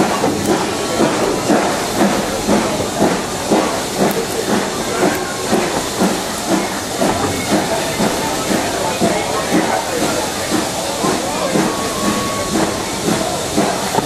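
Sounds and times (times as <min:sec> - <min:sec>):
steam hiss: 0:00.0 - 0:14.0
steam locomotive exhaust beats: 0:00.0 - 0:14.0.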